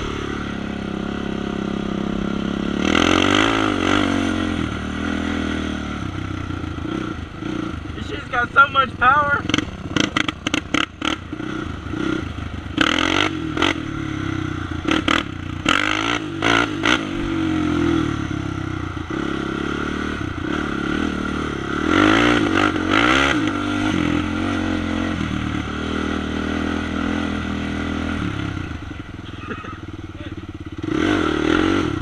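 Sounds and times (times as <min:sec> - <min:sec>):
quad engine revving: 0:00.0 - 0:32.0.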